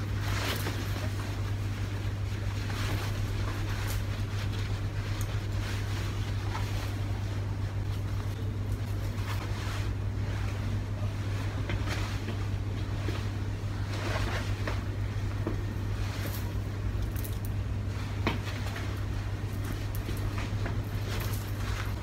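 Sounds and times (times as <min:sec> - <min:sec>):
clothes rustling: 0:00.0 - 0:22.0.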